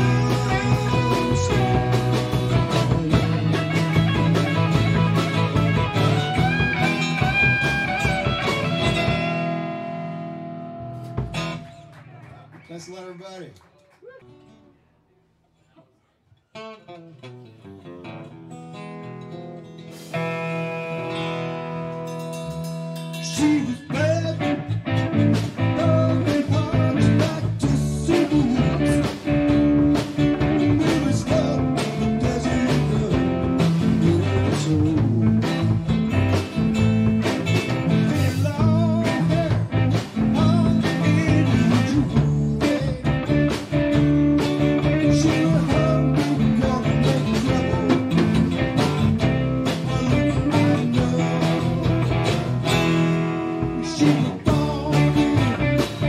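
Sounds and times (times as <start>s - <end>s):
live band playing instrumental: 0.0s - 12.3s, 18.9s - 56.0s
bending lead guitar line: 0.0s - 12.9s, 16.6s - 56.0s.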